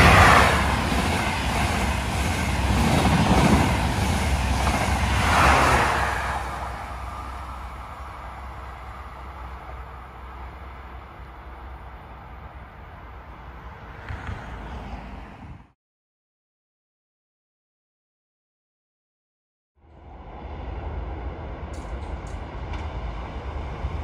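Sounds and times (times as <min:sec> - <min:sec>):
train passing at speed: 0:00.0 - 0:15.8, 0:19.8 - 0:24.0.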